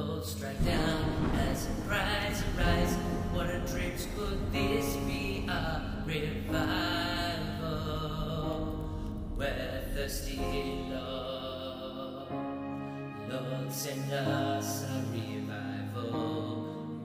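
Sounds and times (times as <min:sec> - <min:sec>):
person singing: 0:00.0 - 0:17.0
slow worship music: 0:00.0 - 0:17.0.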